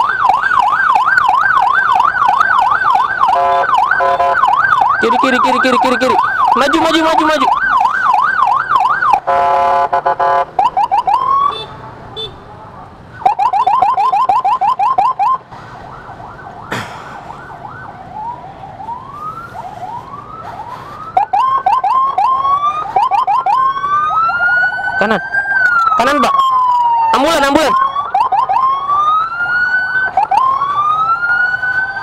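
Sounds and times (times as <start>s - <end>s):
electronic emergency siren: 0.0s - 11.7s, 13.2s - 32.0s.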